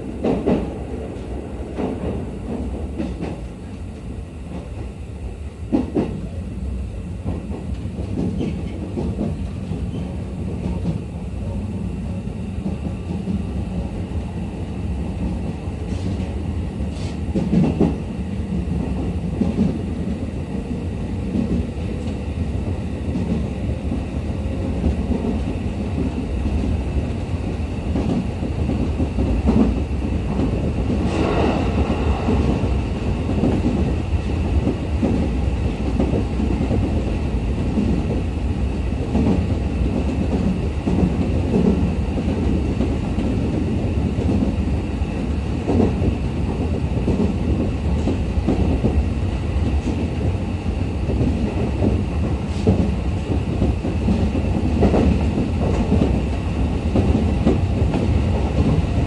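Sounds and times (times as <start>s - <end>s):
train running rumble: 0.0s - 59.0s.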